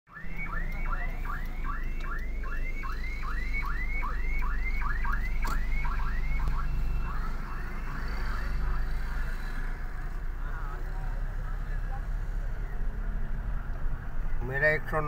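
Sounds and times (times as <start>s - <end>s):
vehicle low rumble: 0.1s - 15.0s.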